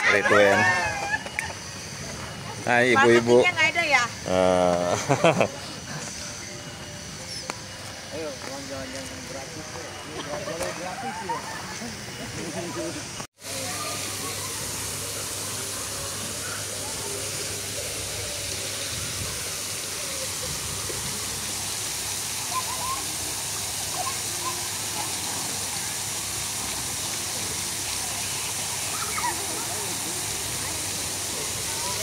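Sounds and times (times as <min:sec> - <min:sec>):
faint voices: 0:00.0 - 0:32.0
fountain water rushing: 0:00.0 - 0:32.0.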